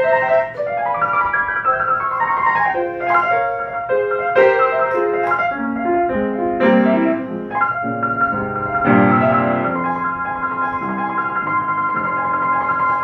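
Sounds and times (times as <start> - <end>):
upright piano playing: 0.0 - 13.0.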